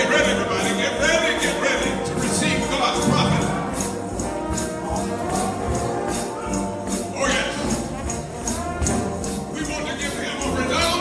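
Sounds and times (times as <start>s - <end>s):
brass ensemble of trombones: 0.0s - 11.0s
tambourine beat: 0.0s - 11.0s.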